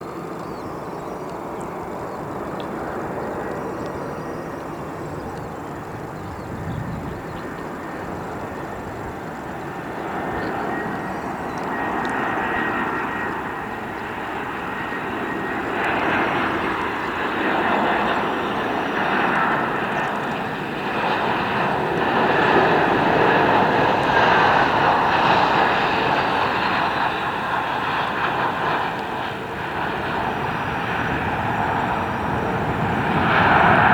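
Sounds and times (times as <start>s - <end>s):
jet airliner landing: 0.0s - 33.9s.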